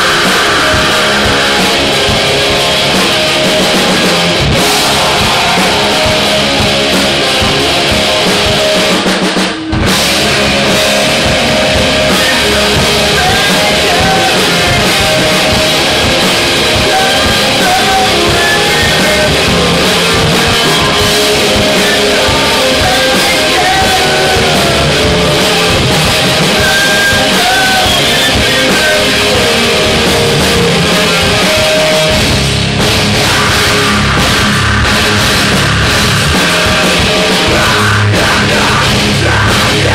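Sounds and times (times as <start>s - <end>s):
person singing: 0.0s - 9.0s, 10.6s - 32.2s, 33.2s - 39.9s
distorted electric guitars: 0.0s - 39.9s
drum kit: 0.0s - 39.9s.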